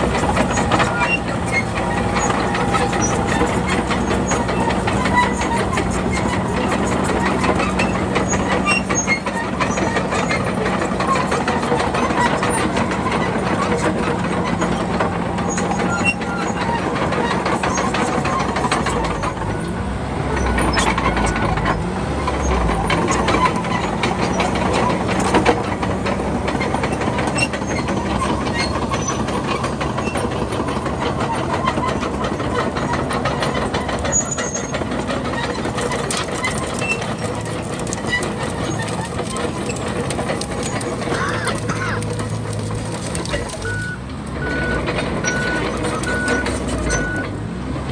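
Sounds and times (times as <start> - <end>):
metallic clatter of tracks: 0.0 - 47.5
bulldozer diesel engine running: 0.0 - 47.9.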